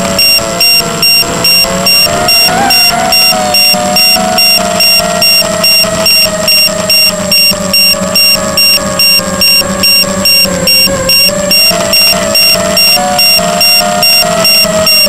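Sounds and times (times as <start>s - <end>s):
drone motors whining: 0.0s - 15.0s
electronic beeping: 0.0s - 15.0s.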